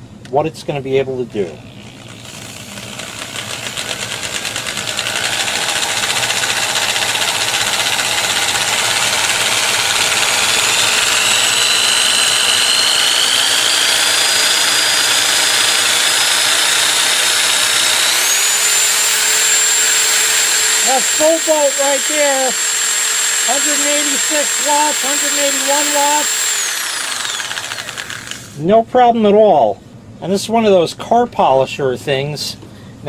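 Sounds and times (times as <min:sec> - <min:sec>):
electric drill motor whining: 0:01.7 - 0:28.6.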